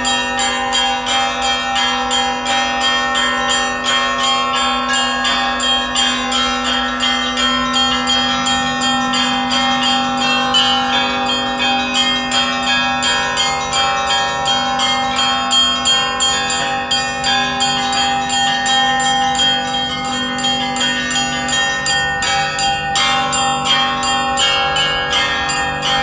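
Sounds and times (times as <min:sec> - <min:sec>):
large bell low ring: 0:00.0 - 0:26.0
small bells struck quickly: 0:00.0 - 0:26.0.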